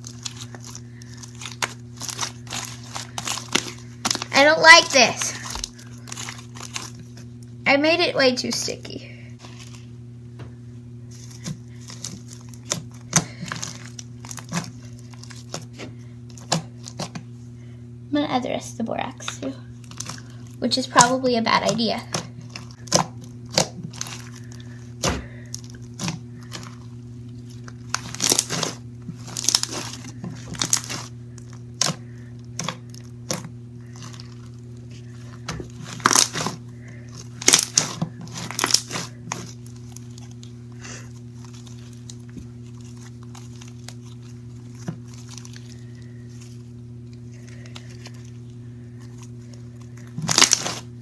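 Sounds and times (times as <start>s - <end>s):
slime crackling and popping: 0.0s - 7.5s, 11.1s - 17.2s, 19.8s - 51.0s
steady low hum: 0.0s - 51.0s.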